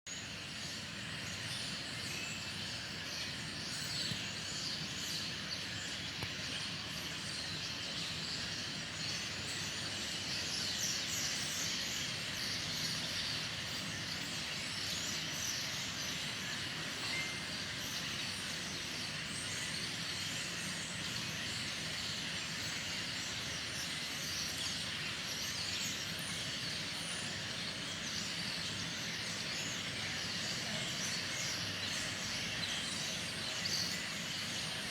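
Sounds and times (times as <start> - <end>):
flock of birds twittering: 0.1 - 34.9.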